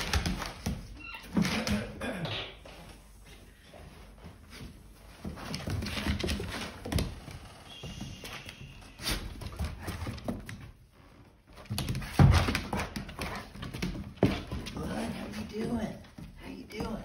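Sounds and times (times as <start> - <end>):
dogs bodies bumping: 0.0 - 2.1, 4.6 - 10.9, 11.5 - 17.0.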